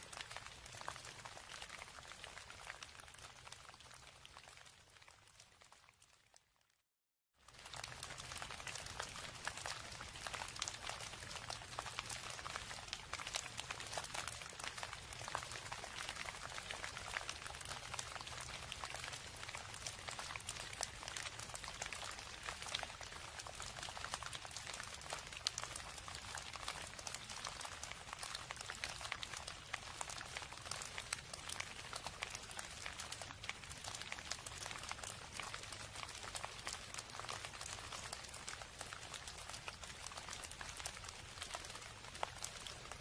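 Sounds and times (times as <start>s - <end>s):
steady rain patter: 0.0s - 6.2s, 7.4s - 43.0s.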